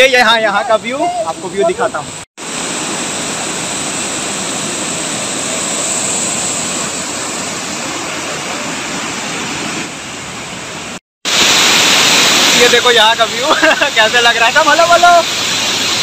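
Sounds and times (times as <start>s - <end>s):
water rushing over waterfall: 1.0s - 16.0s.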